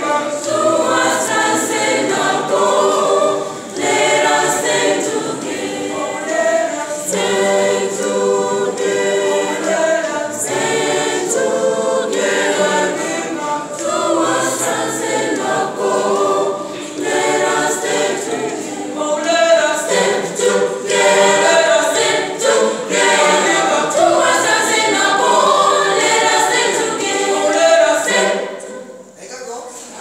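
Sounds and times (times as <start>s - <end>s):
choir singing unaccompanied: 0.0s - 29.2s.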